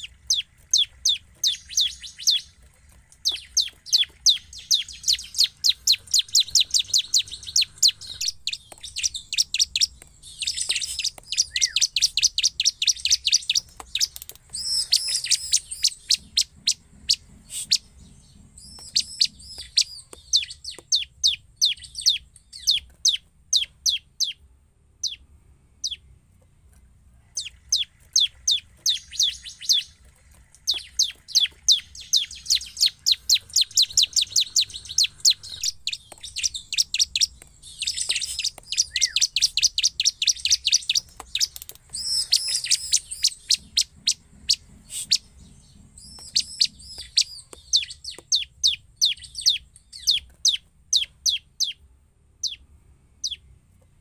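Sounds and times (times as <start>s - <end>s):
bird song of high chipping notes: 0.0s - 54.0s.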